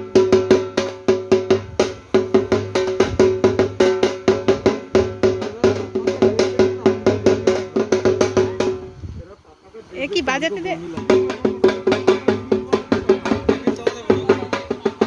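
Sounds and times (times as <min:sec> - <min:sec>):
drum ring: 0:00.0 - 0:09.0, 0:11.0 - 0:15.0
small drum beaten with sticks: 0:00.0 - 0:09.0, 0:10.3 - 0:15.0.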